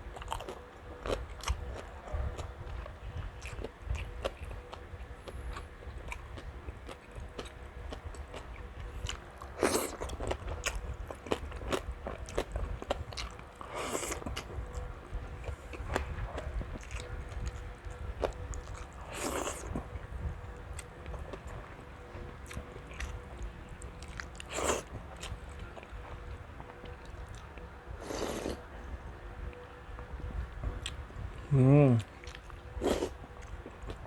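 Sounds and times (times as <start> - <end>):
wet chewing: 0.0 - 28.8, 30.8 - 34.0.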